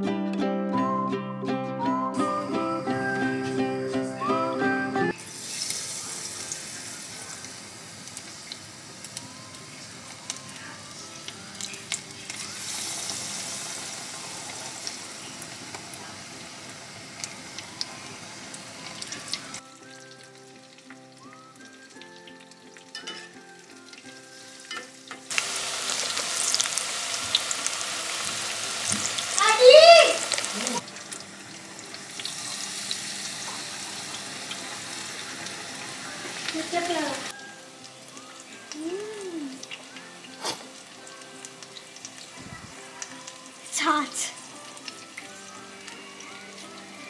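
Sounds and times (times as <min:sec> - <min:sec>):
soft background music: 0:00.0 - 0:47.0
food deep-frying in oil: 0:05.1 - 0:47.0.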